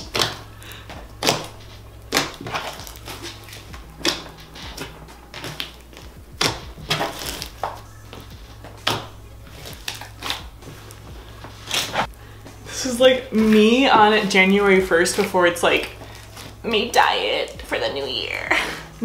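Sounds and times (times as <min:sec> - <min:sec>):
slime squishing: 0:00.0 - 0:18.1
quiet background music: 0:00.0 - 0:19.0.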